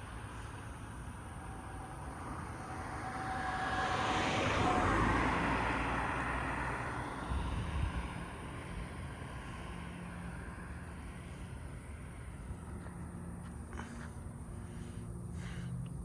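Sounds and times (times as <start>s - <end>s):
vehicle passing by: 0.3s - 16.0s.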